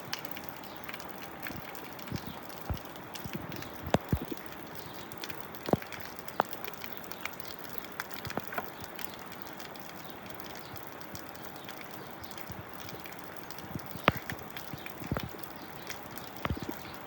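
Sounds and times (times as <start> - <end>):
sharp drips and taps: 0.0 - 17.0
steady rain: 0.0 - 17.0.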